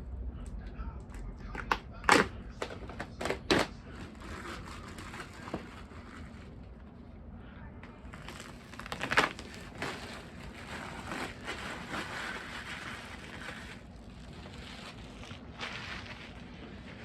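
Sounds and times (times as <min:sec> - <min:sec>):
packaging crinkling and rustling: 0:01.5 - 0:06.9, 0:07.9 - 0:17.0.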